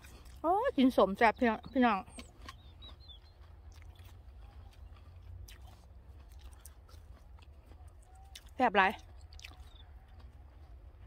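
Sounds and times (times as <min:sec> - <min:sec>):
person chewing crisp apple: 0:00.0 - 0:00.4, 0:01.7 - 0:11.0.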